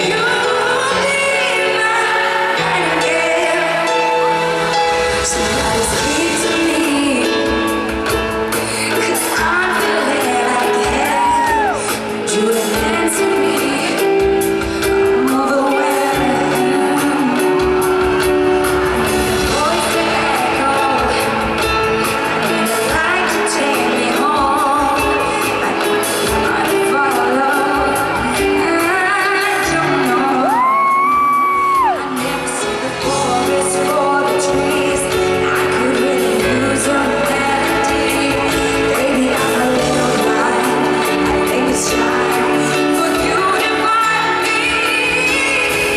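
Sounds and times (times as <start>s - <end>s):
band playing pop ballad: 0.0s - 45.9s
woman singing: 0.0s - 45.9s.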